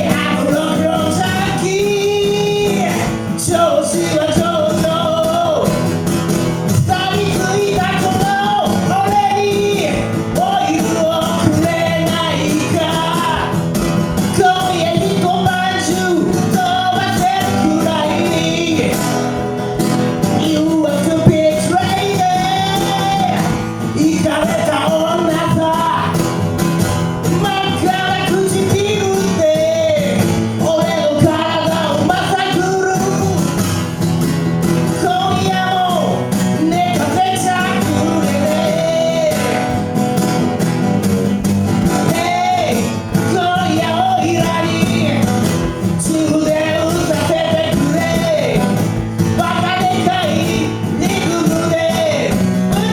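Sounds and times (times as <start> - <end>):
guitar accompaniment: 0.0 - 52.9
man singing: 0.0 - 52.9.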